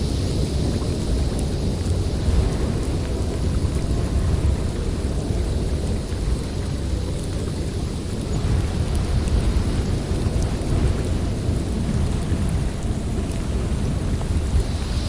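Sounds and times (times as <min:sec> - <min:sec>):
snowstorm wind through forest: 0:00.0 - 0:15.0.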